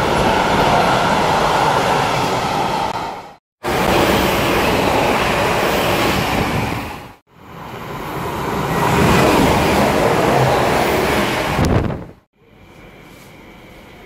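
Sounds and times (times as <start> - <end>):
train passing fast: 0.0 - 12.2
train approaching and passing: 0.0 - 14.0.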